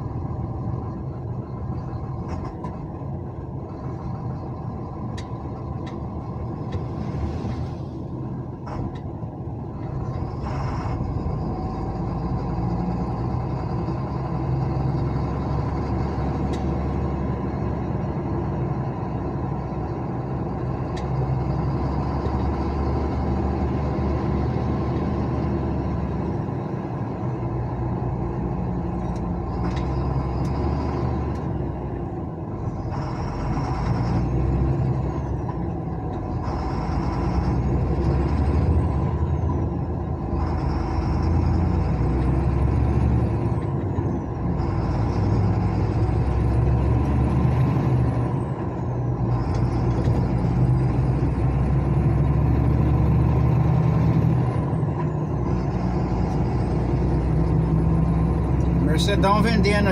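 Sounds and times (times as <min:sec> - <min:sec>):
car engine accelerating: 0:00.0 - 0:59.9
high engine whine: 0:00.0 - 0:59.9.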